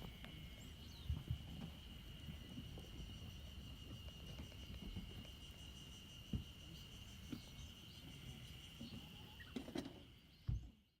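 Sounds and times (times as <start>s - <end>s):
insect trill: 0.0s - 10.9s.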